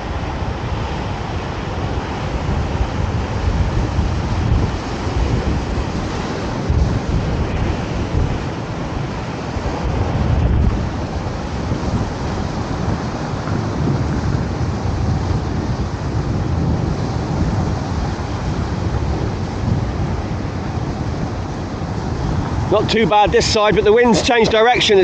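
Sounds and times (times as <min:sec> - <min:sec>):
choppy sea and surf: 0:00.0 - 0:25.0
wind buffeting microphone: 0:00.0 - 0:25.0.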